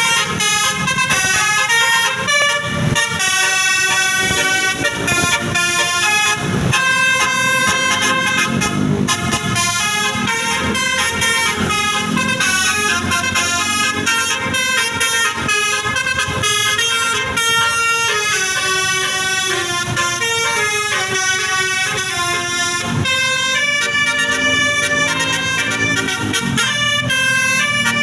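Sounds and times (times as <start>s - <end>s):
musical air horn playing a tune: 0.0s - 28.0s.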